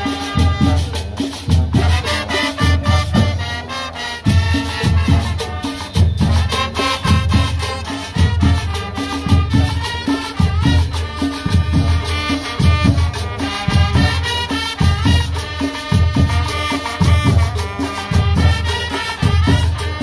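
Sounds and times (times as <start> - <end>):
brass band playing dance music: 0.0 - 20.0
steady percussion: 0.0 - 20.0
trumpets: 0.0 - 20.0.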